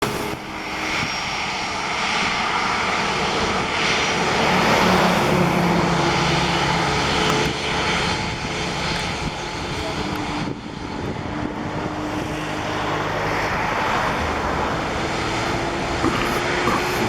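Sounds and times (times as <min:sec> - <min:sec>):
jet engine noise: 0:00.0 - 0:17.0.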